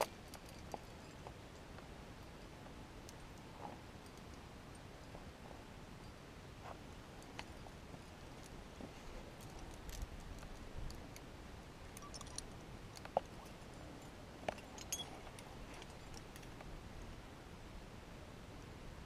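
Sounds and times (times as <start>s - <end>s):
climbing gear clinking: 0.0s - 11.3s, 11.9s - 16.8s.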